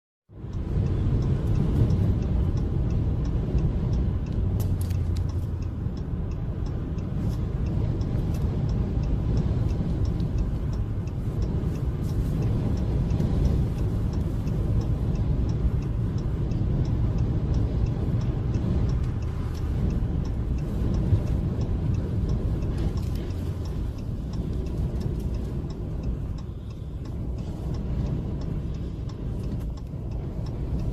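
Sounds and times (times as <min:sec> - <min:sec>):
light ticking: 0:00.3 - 0:30.9
strong wind rumbling: 0:00.4 - 0:30.9.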